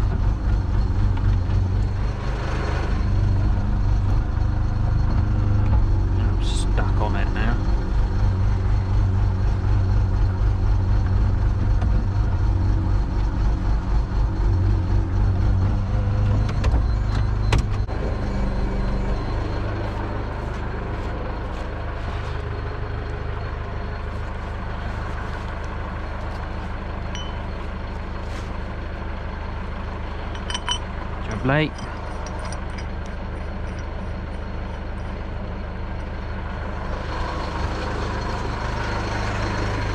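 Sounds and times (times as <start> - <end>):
heavy vehicle engine rumbling: 0.0 - 39.9.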